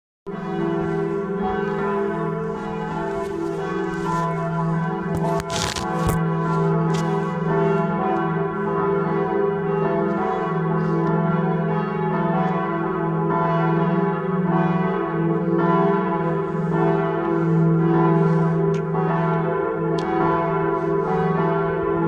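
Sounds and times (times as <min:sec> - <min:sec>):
church bells ringing: 0:00.3 - 0:22.0.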